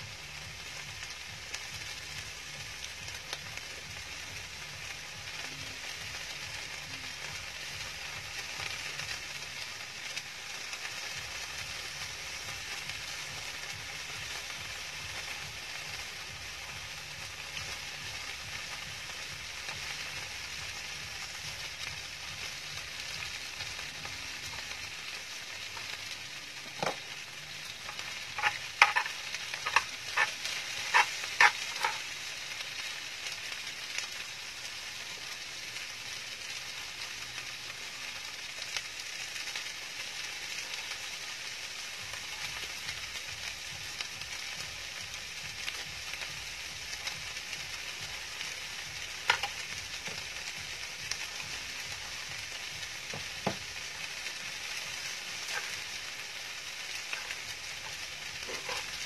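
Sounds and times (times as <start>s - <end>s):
fried rice sizzling in a pan: 0.0s - 59.0s.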